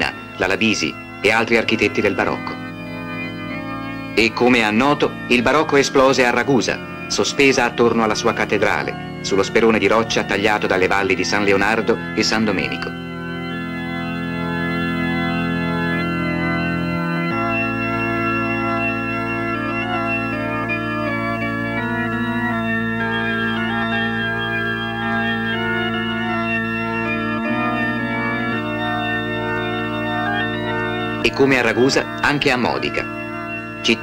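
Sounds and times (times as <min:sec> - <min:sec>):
organ holding chords: 0:00.0 - 0:34.0.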